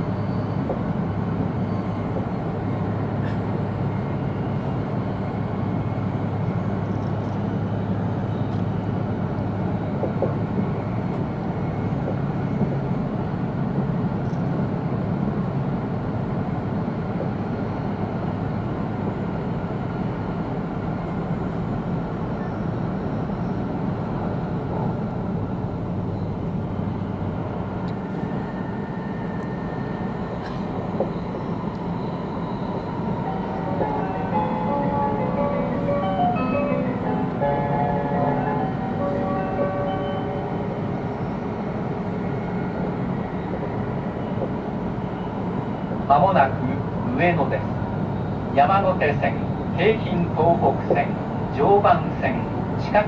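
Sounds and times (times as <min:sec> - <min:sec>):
train rumbling in motion: 0:00.0 - 0:53.0.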